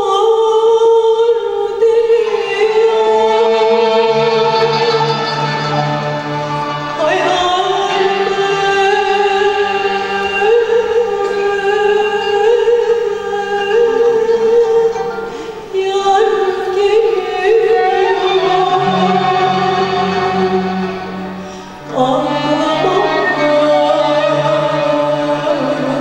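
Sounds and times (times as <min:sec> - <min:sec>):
woman singing into a microphone: 0:00.0 - 0:05.5, 0:06.9 - 0:20.8, 0:21.5 - 0:26.0
violin accompaniment: 0:01.7 - 0:26.0.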